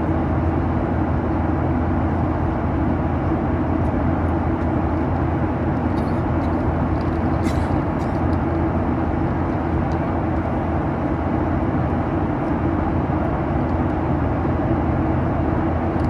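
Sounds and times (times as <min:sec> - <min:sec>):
airplane cabin roar: 0:00.0 - 0:16.0.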